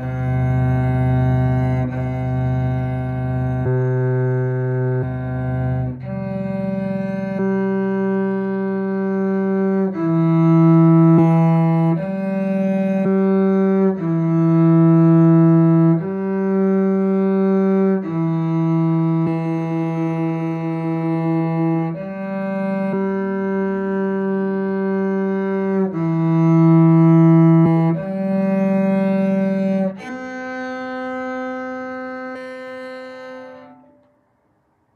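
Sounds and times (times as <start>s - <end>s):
cello playing slow march: 0.0s - 34.2s.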